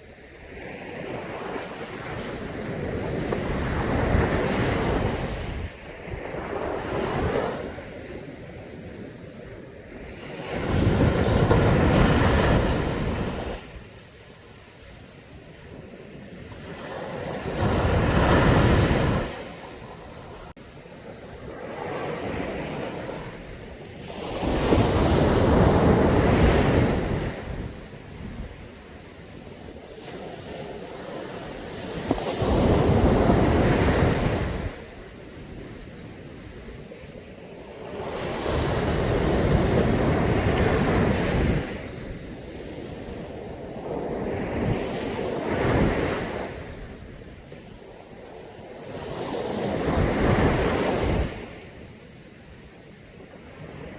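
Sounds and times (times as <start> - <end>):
sea waves breaking on beach: 0.0 - 53.9.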